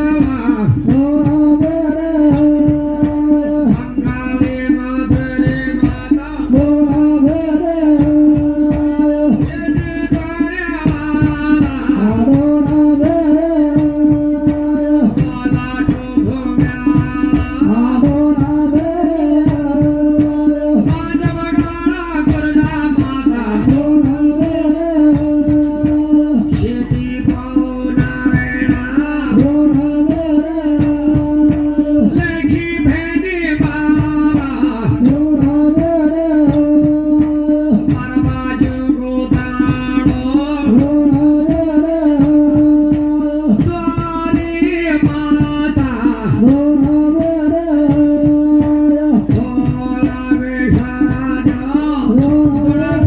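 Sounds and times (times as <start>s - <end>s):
fast dense drumming: 0.0s - 53.0s
person singing a melody: 0.0s - 53.0s.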